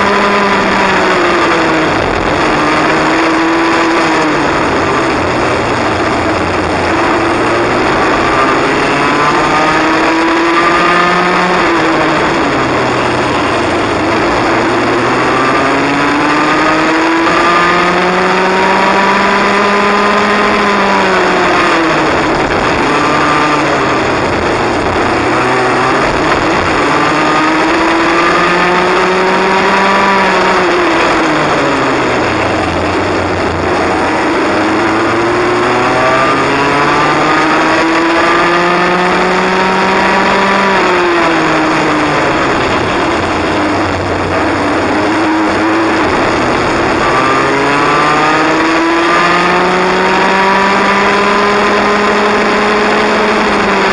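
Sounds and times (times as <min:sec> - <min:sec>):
kart engine revving: 0:00.0 - 0:53.9
wind noise: 0:00.0 - 0:53.9.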